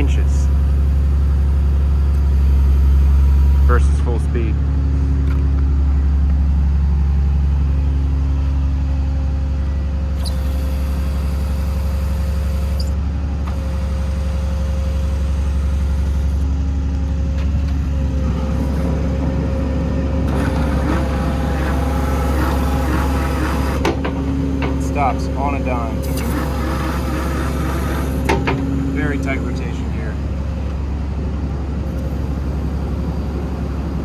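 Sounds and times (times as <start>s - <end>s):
diesel engine droning: 0.0s - 34.0s
hydraulic crane whine: 0.0s - 34.0s.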